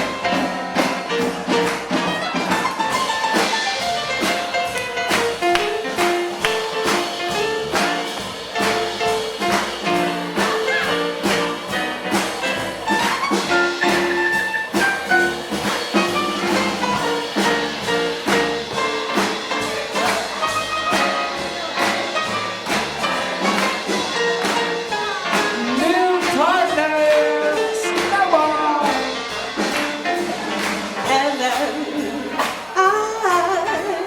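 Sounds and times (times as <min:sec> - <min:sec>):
swing jazz band: 0:00.0 - 0:34.0
sliding horn phrases: 0:03.3 - 0:34.0.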